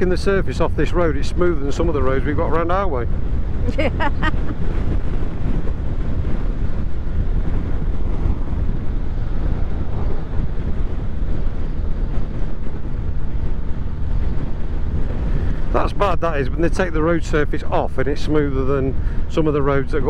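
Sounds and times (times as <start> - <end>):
vehicle road and engine drone: 0.0 - 20.0
wind on microphone: 0.0 - 20.0.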